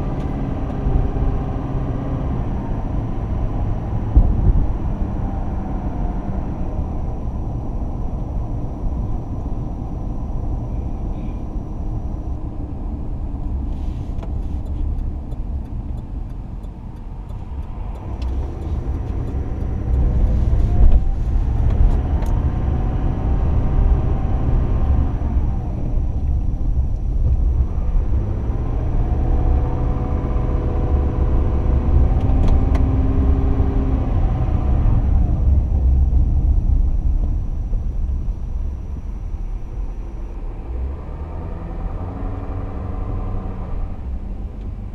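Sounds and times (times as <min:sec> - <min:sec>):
truck engine and road rumble: 0:00.0 - 0:44.9.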